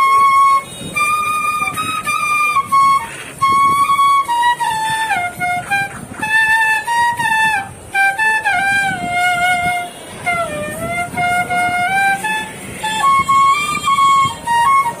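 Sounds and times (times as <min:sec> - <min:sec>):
instrumental melody with sliding notes: 0:00.0 - 0:15.0.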